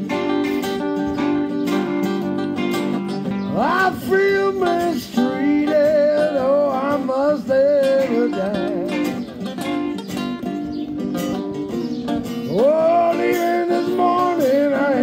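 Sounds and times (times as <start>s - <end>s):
lead guitar line: 0.0s - 15.0s
strummed guitar chords: 0.0s - 15.0s.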